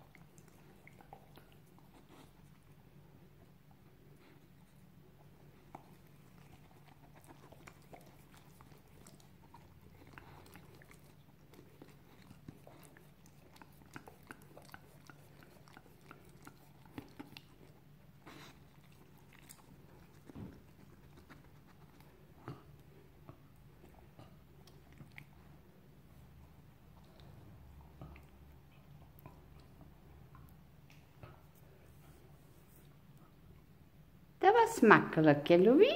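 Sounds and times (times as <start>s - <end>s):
dog licking and chewing: 0.0s - 33.7s.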